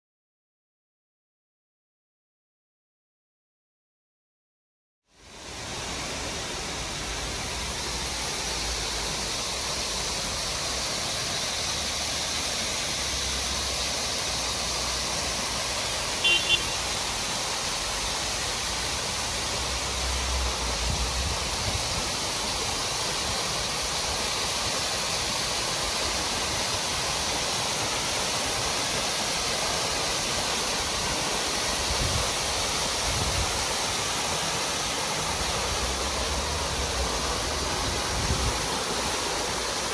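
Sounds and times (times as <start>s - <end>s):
waterfall rushing: 5.1s - 39.9s.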